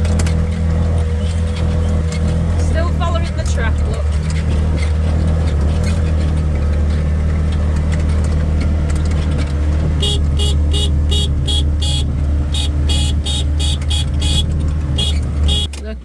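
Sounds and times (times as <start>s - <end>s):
farm vehicle engine humming: 0.0s - 16.0s.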